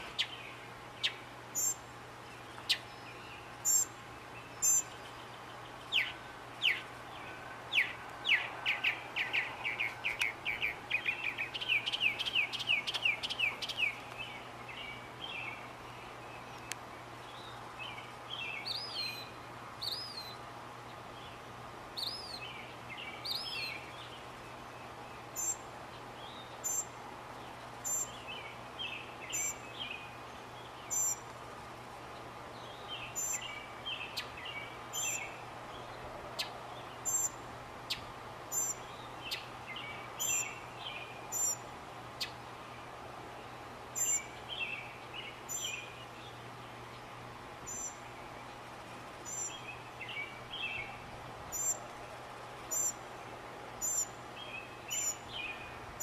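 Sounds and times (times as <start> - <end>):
mockingbird singing: 0.0 - 20.4, 22.0 - 25.6, 26.2 - 26.9, 27.8 - 31.2, 32.6 - 35.4, 36.4 - 41.6, 44.0 - 47.0, 47.7 - 48.6, 49.3 - 51.8, 52.7 - 53.0, 53.8 - 55.8.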